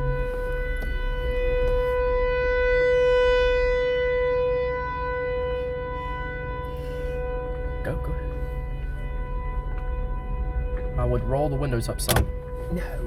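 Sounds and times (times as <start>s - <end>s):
rotating warning siren: 0.0s - 13.0s.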